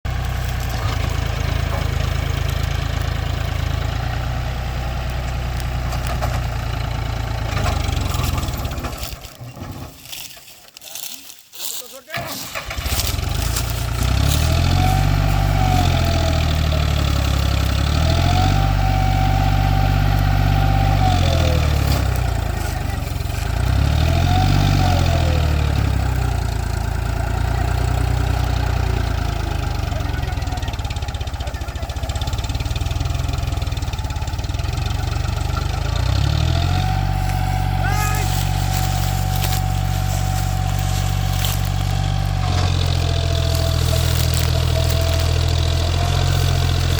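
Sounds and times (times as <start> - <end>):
tractor diesel engine revving: 0.0 - 9.9, 12.1 - 46.9.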